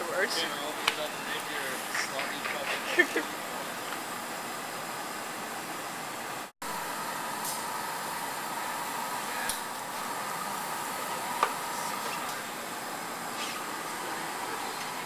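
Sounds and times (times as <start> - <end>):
gas burner roaring: 0.0 - 15.0.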